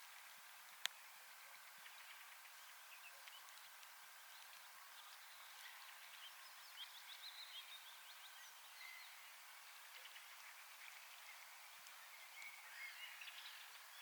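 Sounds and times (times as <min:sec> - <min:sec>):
soft outdoor hiss: 0:00.0 - 0:14.0
songbirds chirping and trilling: 0:00.2 - 0:14.0.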